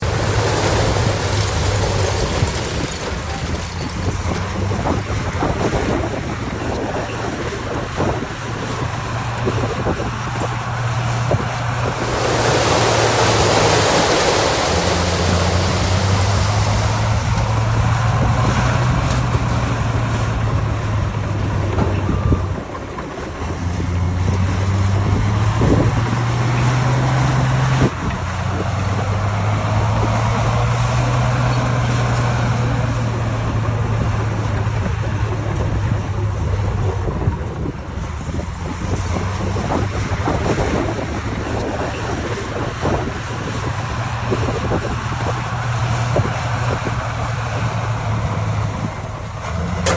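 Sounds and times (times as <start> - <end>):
broad rushing noise: 0.0 - 49.9
heavy machinery diesel engines: 0.0 - 49.9.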